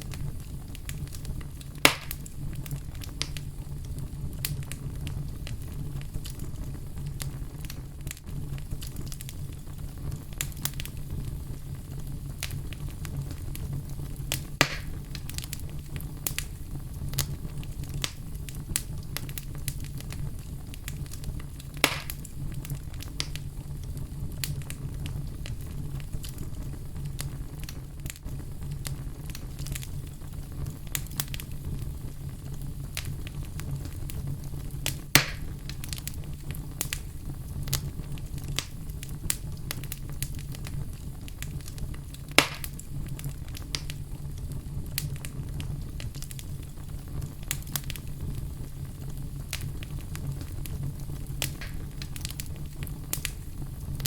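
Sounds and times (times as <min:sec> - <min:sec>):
fire crackling in a fireplace: 0:00.0 - 0:54.0
loud fire pops: 0:00.0 - 0:54.0.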